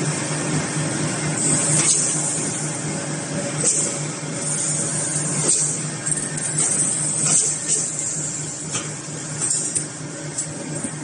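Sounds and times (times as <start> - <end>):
fence making machine drone: 0.0 - 11.0.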